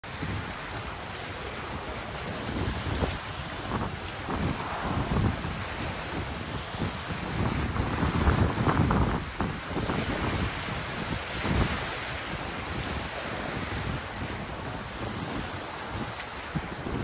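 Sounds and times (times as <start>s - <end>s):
small waves breaking on shore: 0.0s - 17.0s
wind buffeting microphone: 0.0s - 17.0s.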